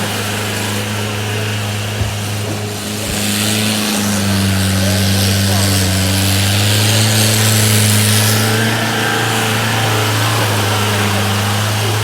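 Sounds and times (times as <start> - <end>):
steady hiss: 0.0 - 12.0
vehicle engine running: 0.0 - 12.0.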